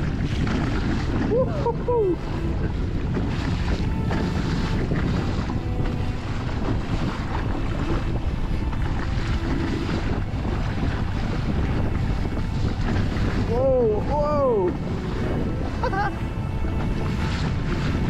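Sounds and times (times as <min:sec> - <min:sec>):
heavy rumble: 0:00.0 - 0:18.0
waves washing against kayak: 0:00.0 - 0:18.0
wind buffeting microphone: 0:00.0 - 0:18.0.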